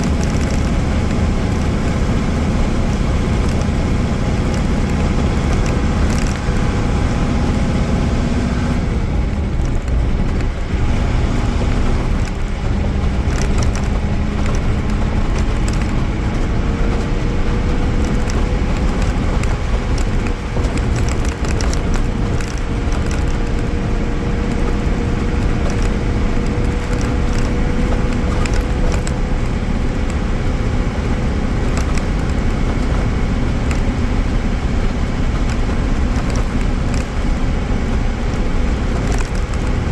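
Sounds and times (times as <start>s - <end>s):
bus diesel engine droning: 0.0s - 39.9s
light rattles: 0.0s - 39.9s
road noise: 0.0s - 39.9s.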